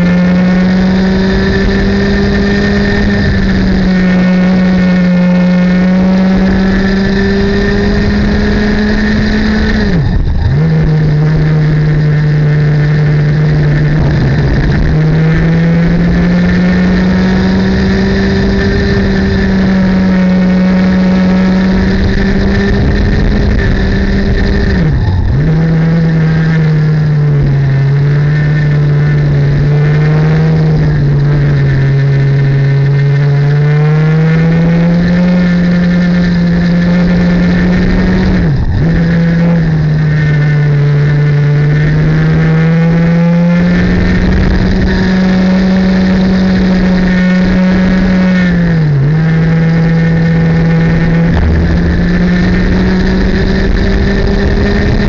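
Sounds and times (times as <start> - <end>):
racing kart engine at high revs: 0.0 - 55.0
second kart engine alongside: 0.0 - 55.0
wind rushing over microphone: 0.0 - 55.0.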